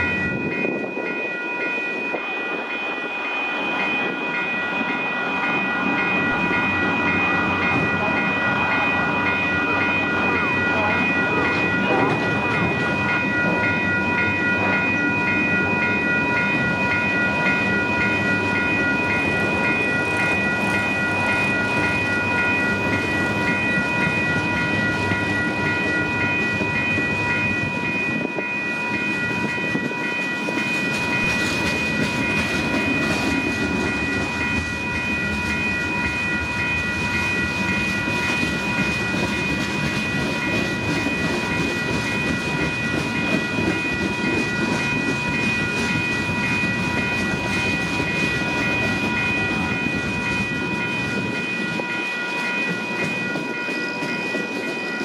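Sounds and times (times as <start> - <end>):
freight train wheels on rails: 0.0 - 55.0
high-pitched ringing tone: 0.0 - 55.0.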